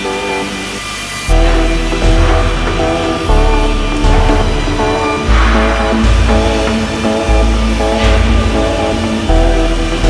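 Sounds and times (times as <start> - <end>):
heavy bass and beat: 1.3 - 10.0.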